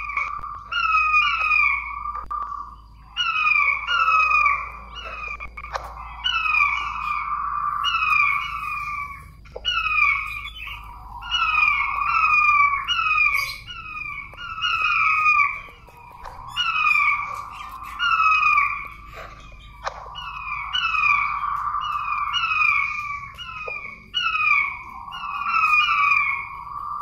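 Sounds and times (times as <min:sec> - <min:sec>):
quails calling whistled notes: 0:00.0 - 0:27.0.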